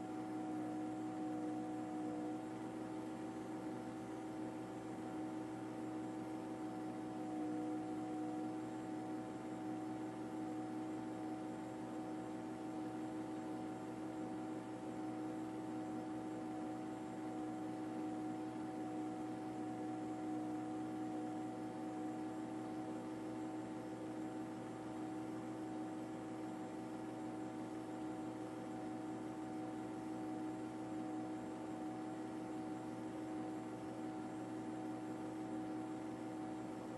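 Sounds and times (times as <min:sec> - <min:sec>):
steady mechanical hum: 0:00.0 - 0:36.9.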